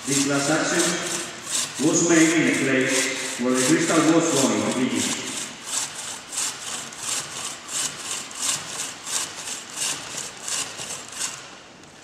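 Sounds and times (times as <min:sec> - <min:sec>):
hand saw rasping strokes: 0:00.0 - 0:11.7.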